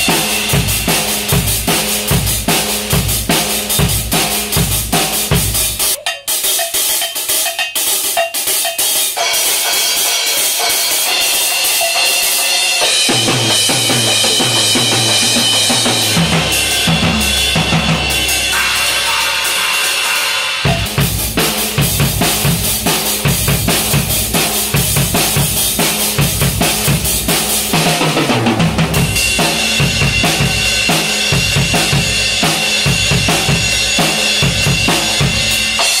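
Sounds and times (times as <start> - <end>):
drum kit solo: 0.0 - 36.0.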